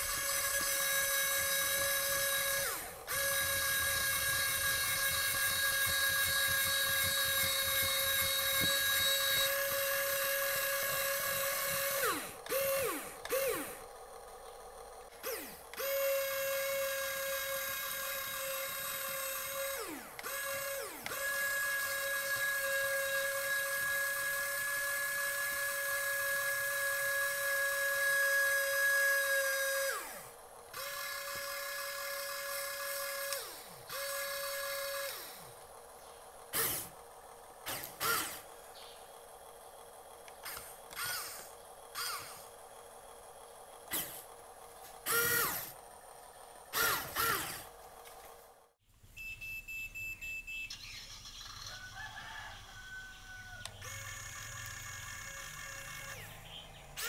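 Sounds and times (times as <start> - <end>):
small electric motors whirring: 0.0 - 48.8, 50.7 - 57.0.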